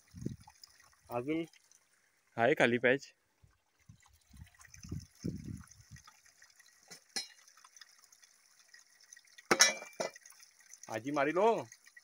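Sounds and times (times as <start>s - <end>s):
faint water trickle: 0.0s - 12.0s.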